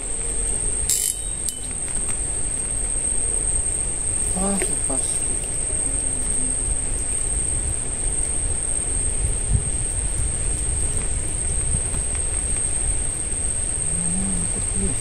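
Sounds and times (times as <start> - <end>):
night insects droning: 0.0 - 15.0.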